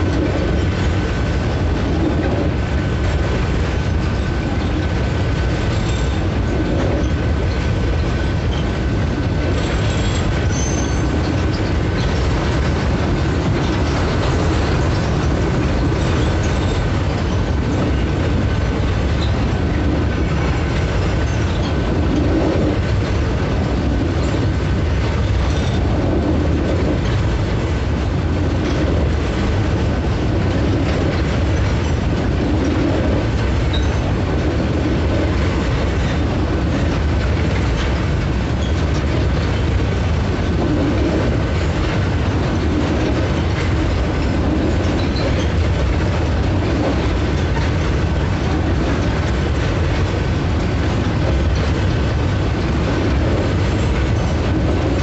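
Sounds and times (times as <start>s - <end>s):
freight wagons rumbling and rattling: 0.0s - 55.0s.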